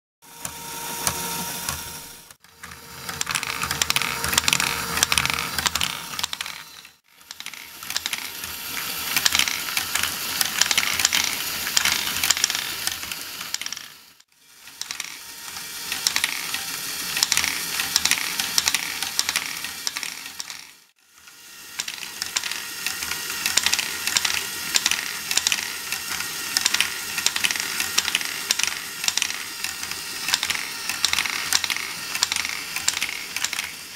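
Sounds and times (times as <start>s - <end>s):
plastic gears clattering: 1.0s - 20.8s, 21.7s - 33.9s.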